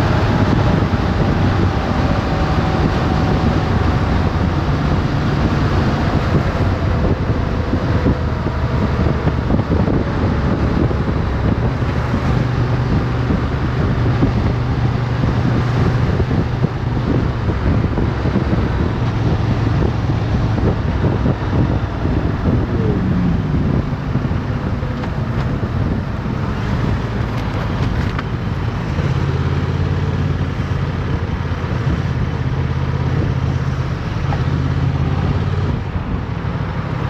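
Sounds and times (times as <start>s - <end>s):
heavy wind rush: 0.0s - 37.0s.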